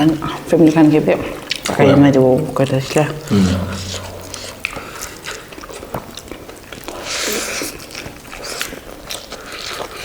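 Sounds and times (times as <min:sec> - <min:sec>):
wet chewing and crunching: 0:00.6 - 0:01.8, 0:02.8 - 0:10.0.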